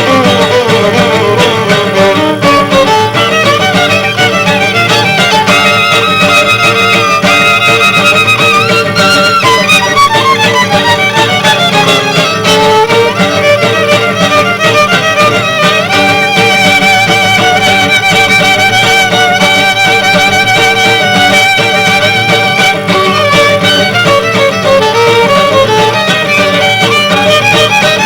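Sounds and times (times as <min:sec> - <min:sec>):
rhythmic acoustic guitar: 0:00.0 - 0:28.0
violin playing jazz: 0:00.0 - 0:28.0.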